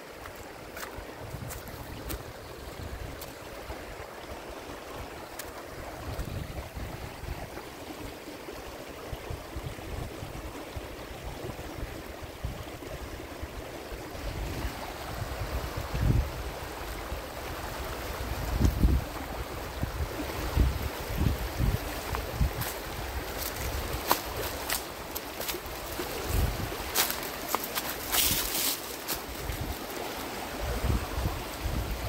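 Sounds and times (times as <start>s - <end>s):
stream rushing over stones: 0.0s - 32.0s
wind rumble on microphone: 1.0s - 4.0s, 4.9s - 7.7s, 9.1s - 24.8s, 25.4s - 27.2s, 28.1s - 29.9s, 30.5s - 32.0s.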